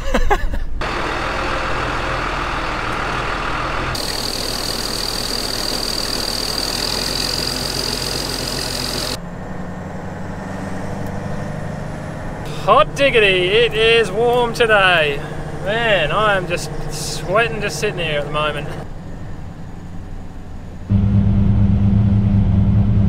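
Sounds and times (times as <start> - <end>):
auger whine: 0.8 - 23.0
truck engine running: 0.8 - 23.0.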